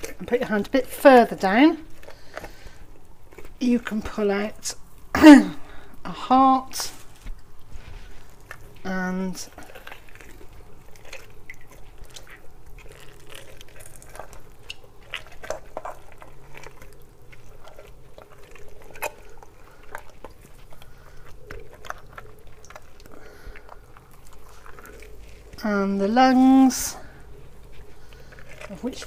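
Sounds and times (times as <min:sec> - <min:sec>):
wet squelching of gutting chicken: 0:00.0 - 0:03.6, 0:06.8 - 0:29.0.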